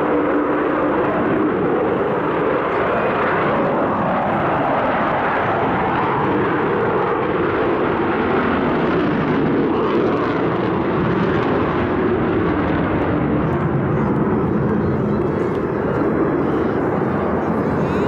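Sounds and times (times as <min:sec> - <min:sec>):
jet aircraft engines overhead: 0:00.0 - 0:18.0.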